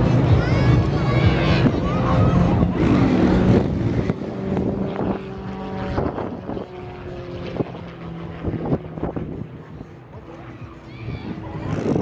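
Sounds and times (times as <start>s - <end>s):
plane engine droning: 0.0s - 12.0s.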